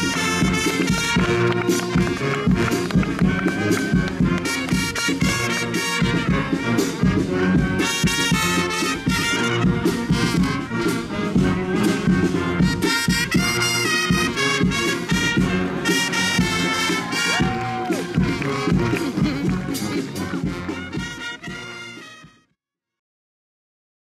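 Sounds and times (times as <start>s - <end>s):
steady drumbeat: 0.0s - 22.3s
brass band playing: 0.0s - 22.6s.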